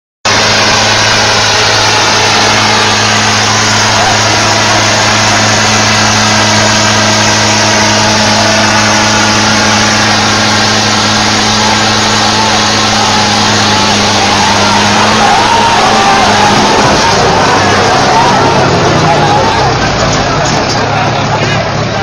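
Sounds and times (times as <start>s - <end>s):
crowd noise: 0.2s - 22.0s
tractor diesel engines straining: 0.2s - 22.0s.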